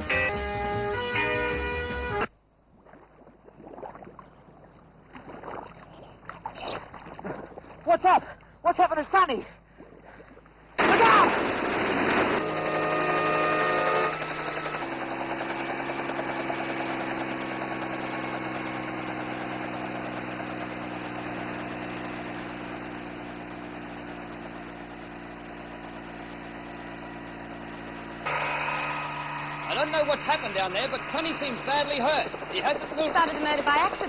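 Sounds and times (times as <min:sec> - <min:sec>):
engine running steadily: 0:04.2 - 0:34.0.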